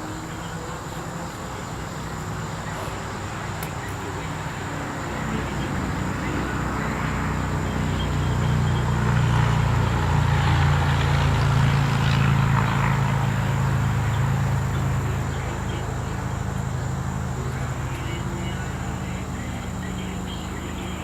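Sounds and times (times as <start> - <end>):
vehicle engine passing by: 0.0 - 21.0.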